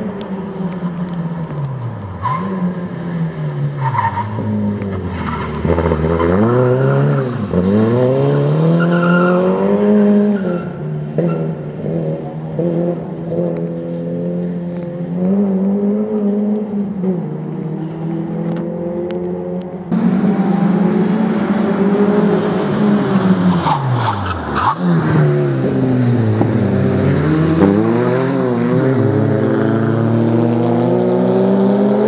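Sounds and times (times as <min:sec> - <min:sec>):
rally car engine accelerating: 0:00.5 - 0:32.0.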